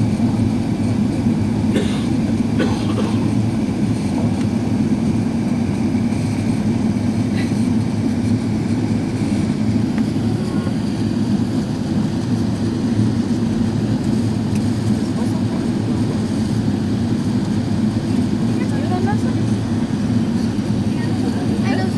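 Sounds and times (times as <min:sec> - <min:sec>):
aircraft cabin engine roar: 0:00.0 - 0:21.9.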